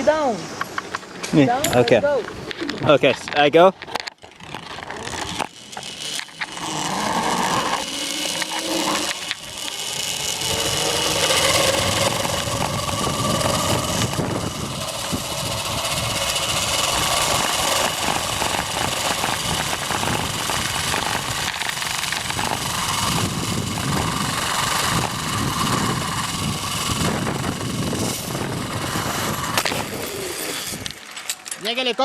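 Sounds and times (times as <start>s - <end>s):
zipline pulleys whirring on cable: 0.0s - 32.0s.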